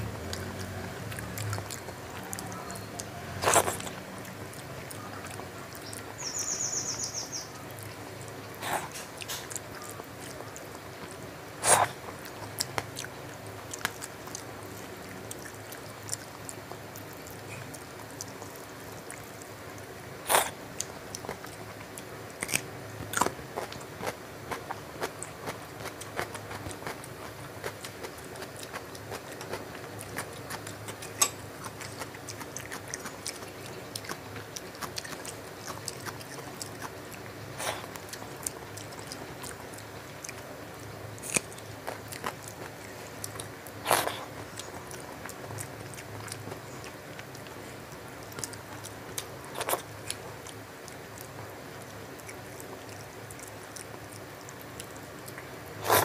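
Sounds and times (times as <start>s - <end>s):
person chewing food: 0.0s - 6.4s, 7.5s - 56.0s.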